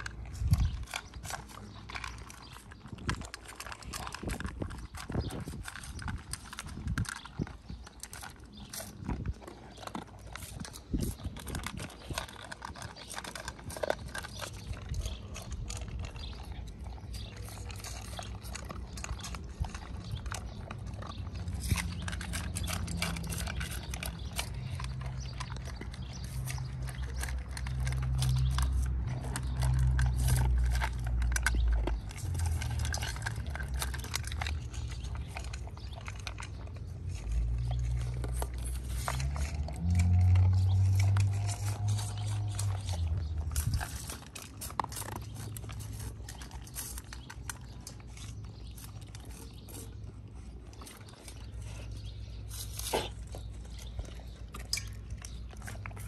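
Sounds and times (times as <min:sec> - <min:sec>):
dogs chewing food: 0:00.0 - 0:56.0.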